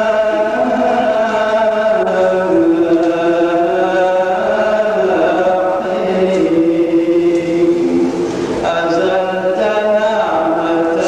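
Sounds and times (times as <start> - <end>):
man chanting solo: 0.0 - 11.0.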